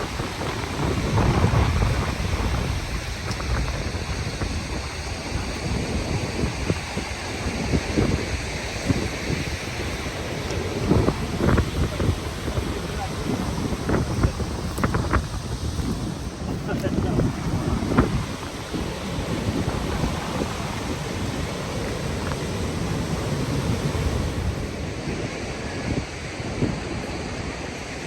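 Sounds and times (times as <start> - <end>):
waterfall roaring: 0.0 - 28.0
wind buffeting microphone: 0.0 - 28.0.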